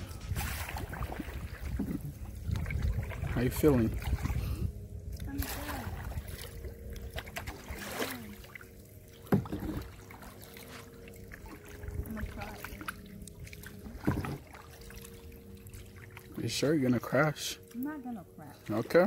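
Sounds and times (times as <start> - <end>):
paddle strokes through water: 0.0 - 17.1
water splashes and drips: 0.0 - 19.0.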